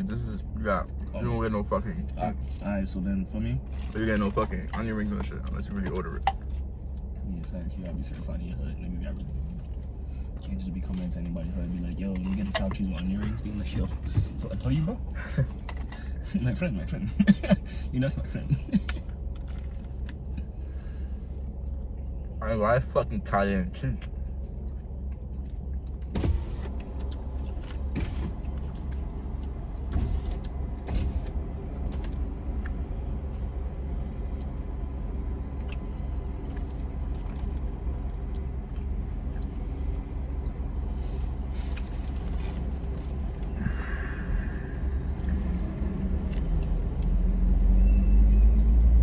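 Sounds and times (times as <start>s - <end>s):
low vehicle rumble: 0.0s - 49.0s.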